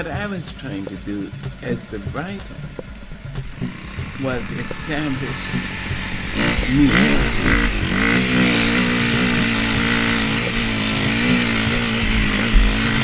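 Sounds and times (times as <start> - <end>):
motorcycle engine pulling under load: 0.0 - 13.0.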